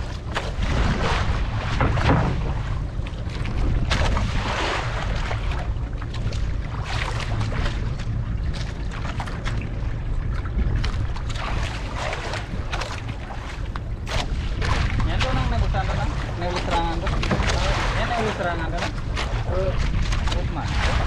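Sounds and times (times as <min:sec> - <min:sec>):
waves washing against hull: 0:00.0 - 0:21.0
wind rumble on microphone: 0:00.0 - 0:21.0.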